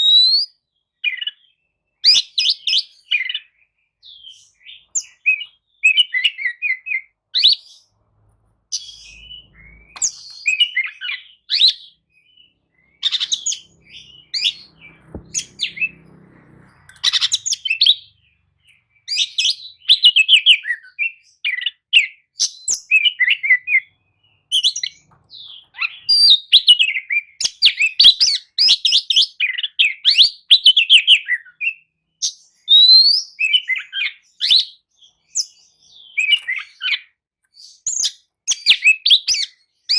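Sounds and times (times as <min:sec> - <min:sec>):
bird singing whistles and trills: 0:00.0 - 0:07.9, 0:08.7 - 0:39.9.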